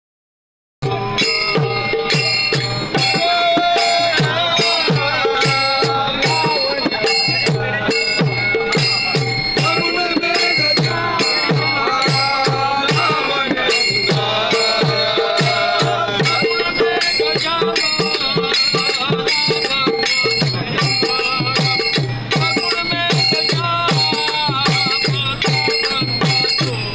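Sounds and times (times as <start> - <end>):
hand drum beat: 0.8 - 26.9
devotional singing: 2.8 - 26.5.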